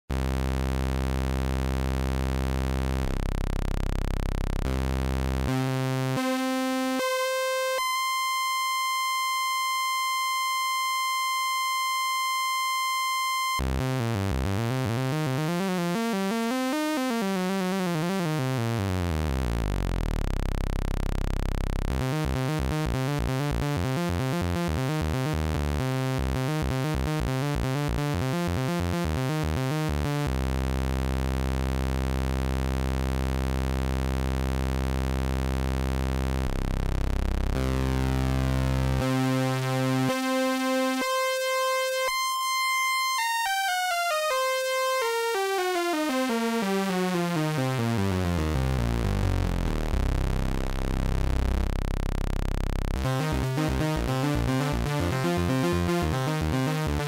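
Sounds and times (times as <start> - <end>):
buzzy synthesizer notes: 0.1 - 10.3, 13.1 - 57.0.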